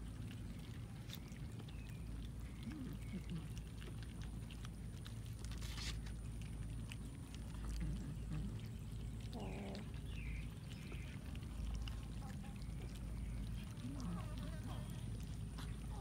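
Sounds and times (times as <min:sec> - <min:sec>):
cats chewing and smacking: 0:00.0 - 0:16.0
low background rumble: 0:00.0 - 0:16.0.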